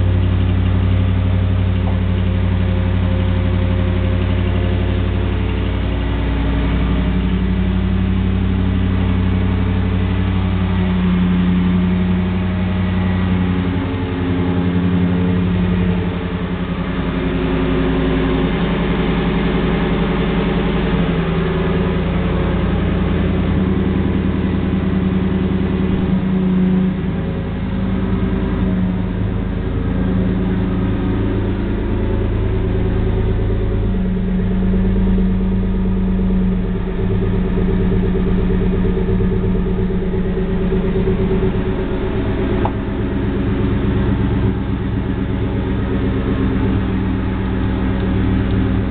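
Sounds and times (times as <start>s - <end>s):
loud engine idling: 0.0s - 48.9s.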